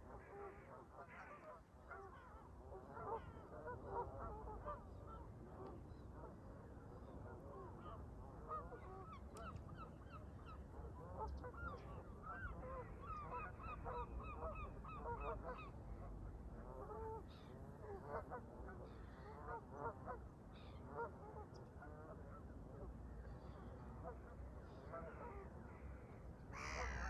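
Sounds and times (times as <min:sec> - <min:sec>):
low rumble of wind: 0:00.0 - 0:27.0.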